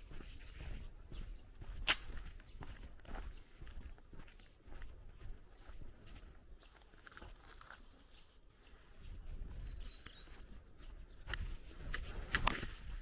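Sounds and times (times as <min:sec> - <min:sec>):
bird chirp: 0:00.0 - 0:12.2
footsteps crunching on dirt: 0:00.0 - 0:13.0.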